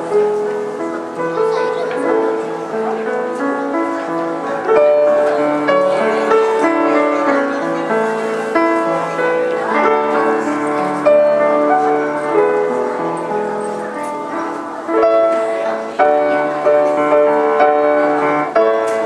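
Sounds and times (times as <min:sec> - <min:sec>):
piano piece: 0:00.0 - 0:19.0.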